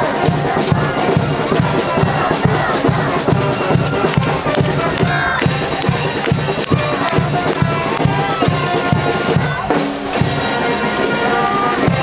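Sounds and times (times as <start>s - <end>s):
band playing cheer song: 0.0s - 12.0s
bass drum beat: 0.0s - 12.0s.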